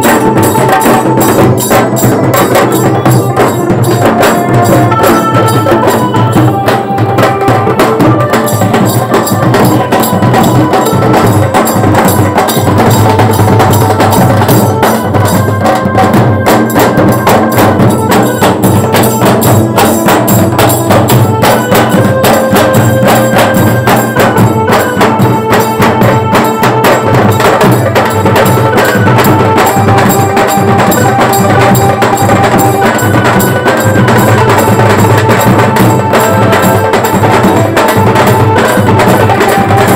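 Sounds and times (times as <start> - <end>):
fast steady drumming: 0.0 - 39.9
melody of held notes: 0.0 - 39.9.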